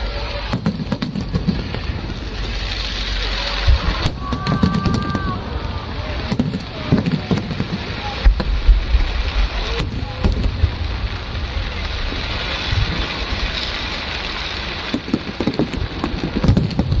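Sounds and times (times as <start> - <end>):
deep firework booms: 0.0 - 17.0
fireworks crackling hiss: 0.0 - 17.0
sharp firework pops: 0.4 - 5.4, 6.0 - 17.0.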